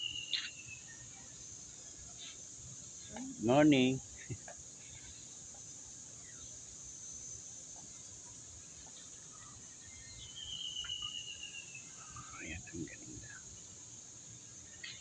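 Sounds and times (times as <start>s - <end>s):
faint bird chirps: 0.0s - 15.0s
insects chirring: 0.0s - 15.0s.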